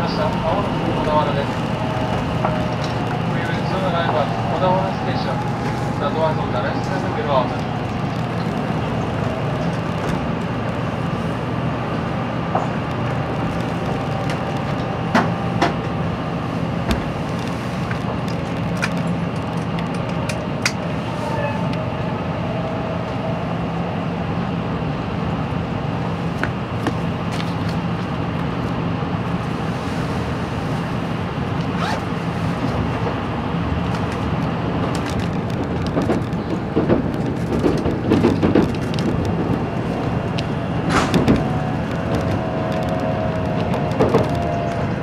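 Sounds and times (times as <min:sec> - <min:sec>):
train running noise: 0:00.0 - 0:45.0.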